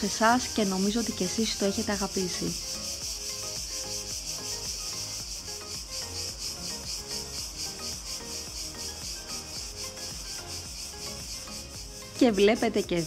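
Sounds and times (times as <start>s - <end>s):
cicadas buzzing: 0.0s - 13.0s
soft background music: 0.0s - 13.0s.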